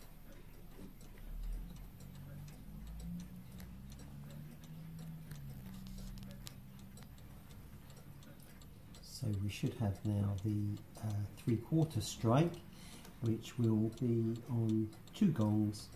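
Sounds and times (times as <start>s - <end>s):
pendulum clock ticking: 0.0s - 15.9s.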